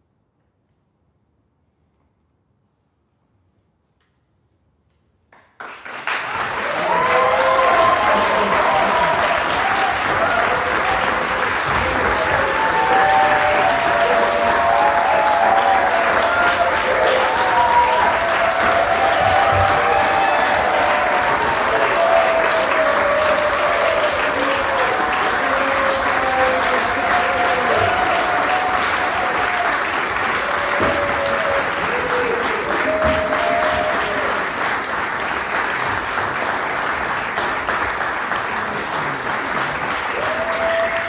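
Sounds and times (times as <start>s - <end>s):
audience applauding: 5.4s - 41.0s.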